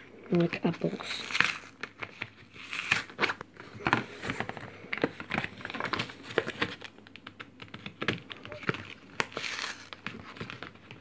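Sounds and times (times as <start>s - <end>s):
packaging crinkling: 0.3s - 11.0s.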